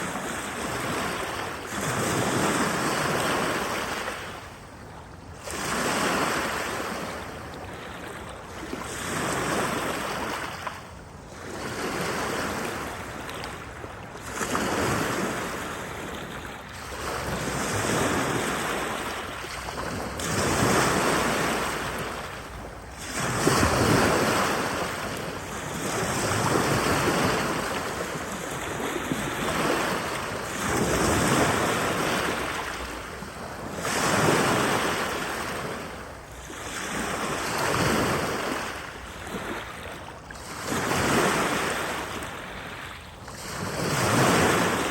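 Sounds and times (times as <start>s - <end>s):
waves washing onto shore: 0.0s - 44.9s.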